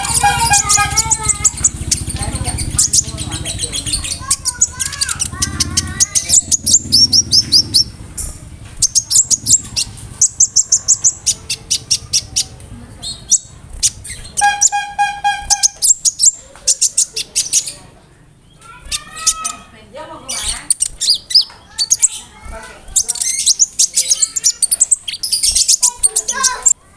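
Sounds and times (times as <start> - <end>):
bird singing: 0.0 - 26.8.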